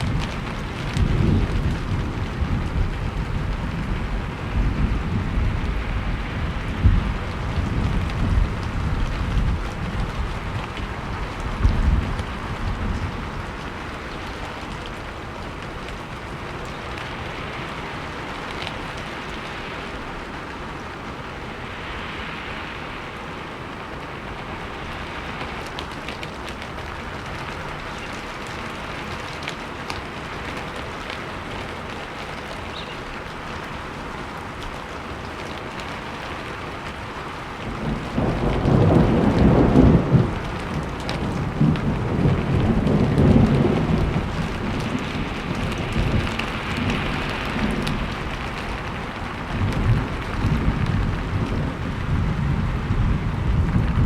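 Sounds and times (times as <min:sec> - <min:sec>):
steady rain falling: 0:00.0 - 0:54.0
thunder rumbling: 0:00.0 - 0:54.0.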